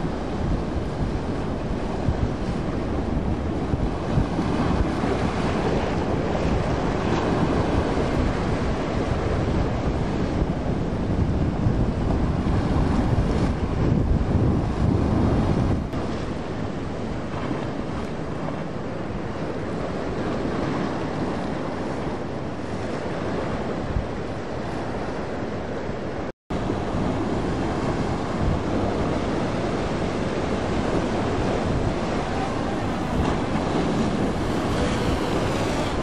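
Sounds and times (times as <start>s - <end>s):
waves rushing: 0.0s - 36.0s
wind buffeting microphone: 0.0s - 36.0s.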